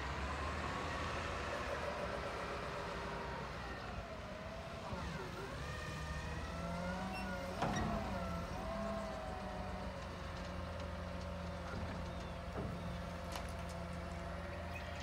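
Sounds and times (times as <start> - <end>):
garbage truck engine and hydraulics: 0.0 - 15.0.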